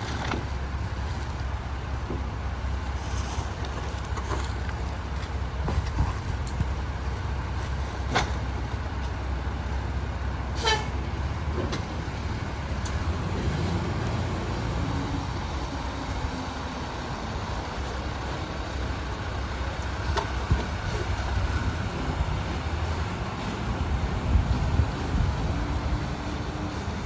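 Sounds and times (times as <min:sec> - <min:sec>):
garbage truck engine rumble: 0:00.0 - 0:27.0.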